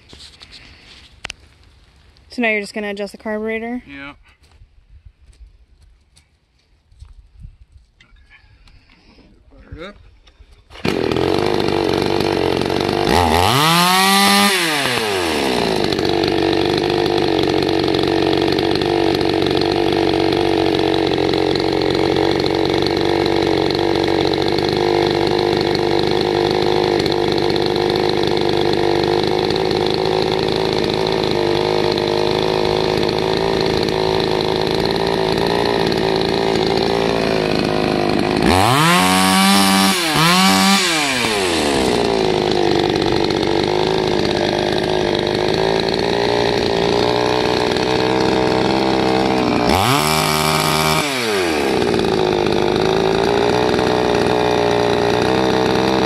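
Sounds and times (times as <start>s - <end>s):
chainsaw engine idling and revving: 10.6s - 56.0s.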